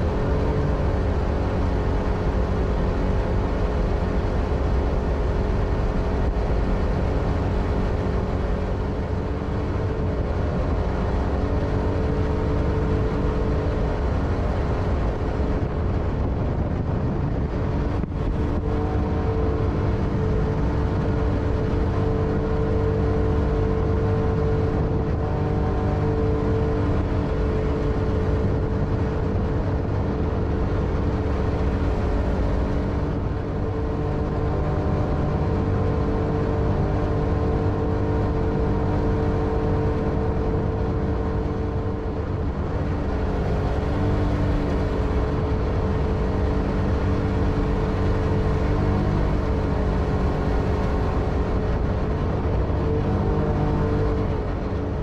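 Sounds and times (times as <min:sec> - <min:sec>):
jet boat engine droning: 0:00.0 - 0:55.0.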